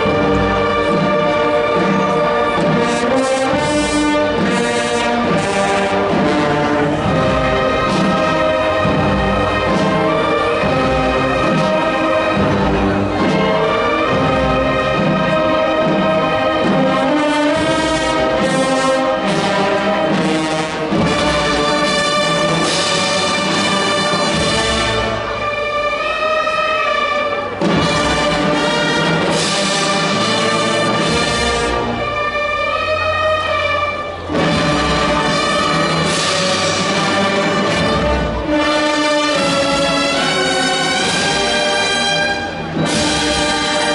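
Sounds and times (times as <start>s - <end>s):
brass band playing a funeral march: 0.0s - 43.9s.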